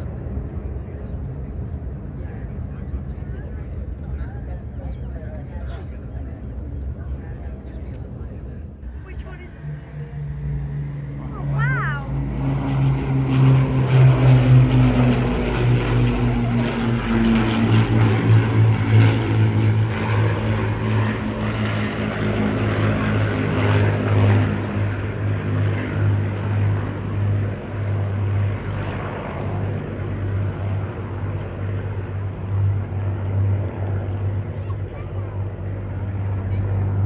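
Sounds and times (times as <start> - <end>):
propeller planes flying over: 0.0 - 37.0.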